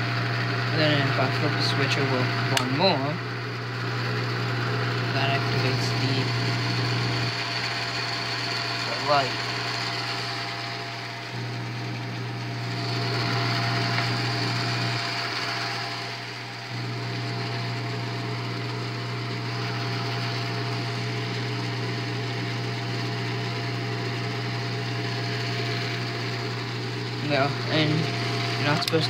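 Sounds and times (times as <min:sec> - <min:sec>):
film projector whirring: 0:00.0 - 0:29.0.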